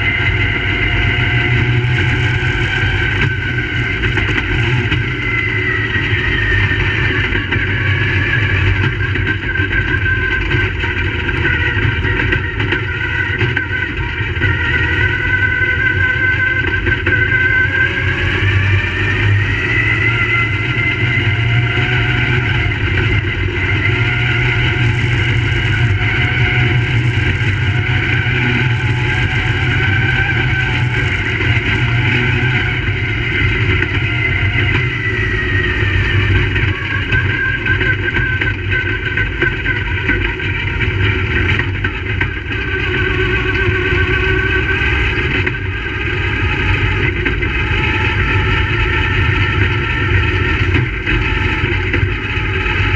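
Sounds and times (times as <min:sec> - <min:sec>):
race car engines at speed: 0:00.0 - 0:52.9.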